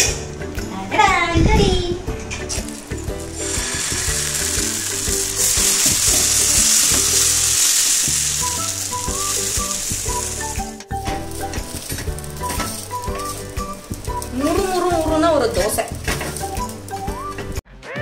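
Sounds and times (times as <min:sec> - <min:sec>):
background music: 0:00.0 - 0:17.9
batter sizzling on hot pan: 0:02.4 - 0:17.4.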